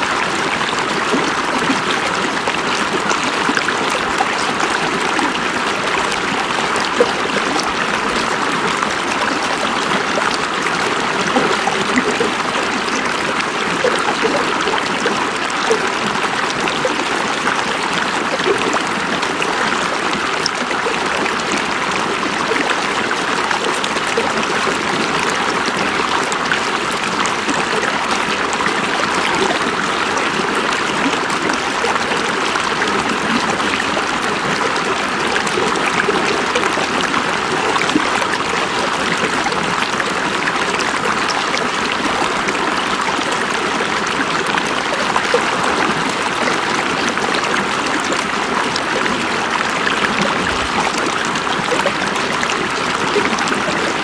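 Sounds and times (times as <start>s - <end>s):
river water running over rocks: 0.0s - 54.0s.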